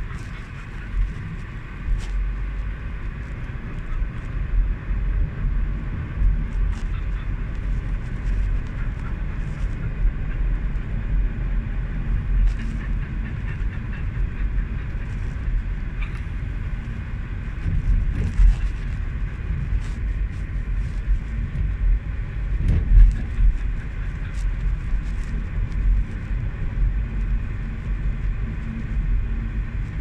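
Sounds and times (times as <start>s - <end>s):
road and engine rumble in car: 0.0s - 30.0s.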